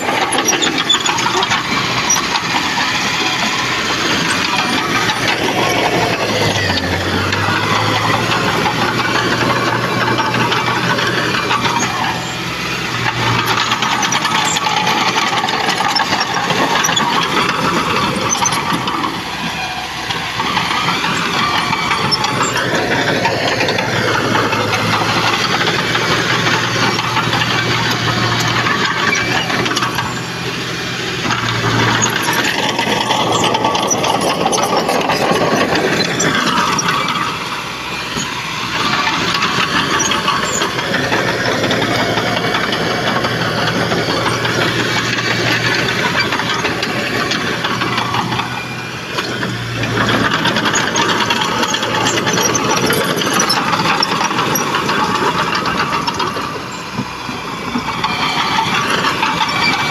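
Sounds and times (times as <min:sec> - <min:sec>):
bulldozer diesel engine under load: 0:00.0 - 0:59.9
machine clanking and rattling: 0:00.0 - 0:59.9.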